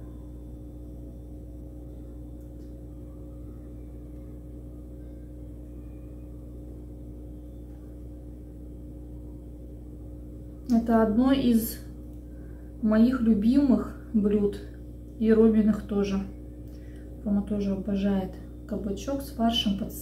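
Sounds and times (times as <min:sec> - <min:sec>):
steady two-tone hum: 0:00.0 - 0:20.0.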